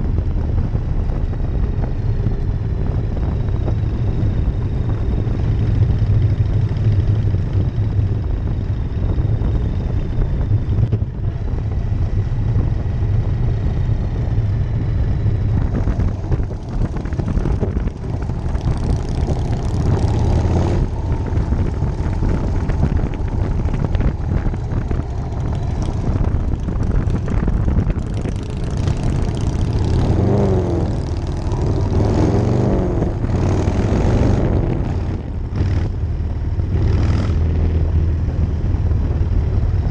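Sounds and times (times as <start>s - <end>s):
wind rushing: 0.0s - 36.0s
motorcycle engine running: 0.0s - 39.9s.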